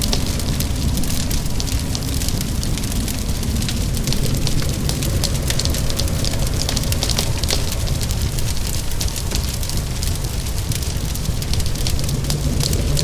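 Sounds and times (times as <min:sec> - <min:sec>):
low rumble: 0:00.0 - 0:13.0
steady rain: 0:00.0 - 0:13.0
wood fire crackling: 0:00.0 - 0:13.0.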